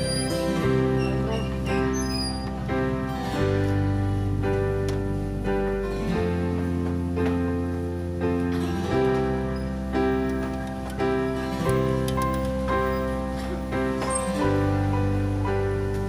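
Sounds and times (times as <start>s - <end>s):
held bass notes: 0.0s - 16.0s
plucked guitar chords: 0.0s - 16.0s.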